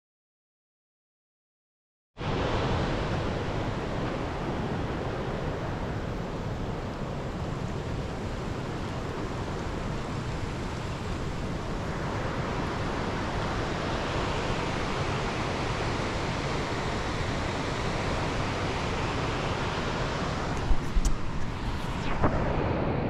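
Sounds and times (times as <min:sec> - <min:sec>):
wind buffeting microphone: 0:02.2 - 0:23.0.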